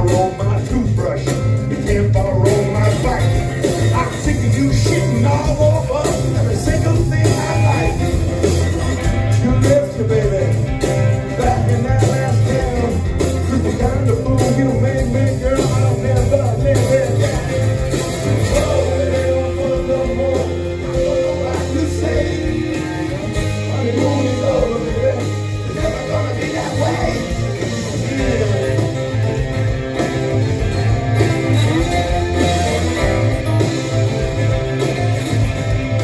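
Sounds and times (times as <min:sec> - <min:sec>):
man singing lead: 0:00.0 - 0:29.7
rock band playing live: 0:00.0 - 0:36.0.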